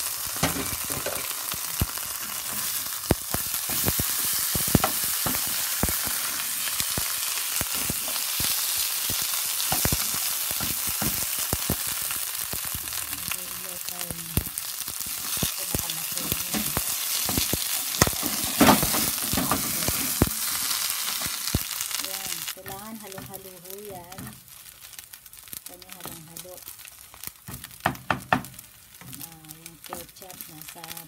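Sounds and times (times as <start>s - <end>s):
rice sizzling in a pan: 0.0s - 31.0s.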